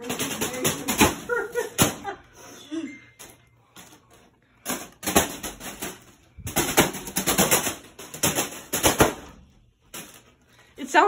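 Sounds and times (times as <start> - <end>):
fan blades slapping foil balloon: 0.0 - 2.2, 3.7 - 10.6.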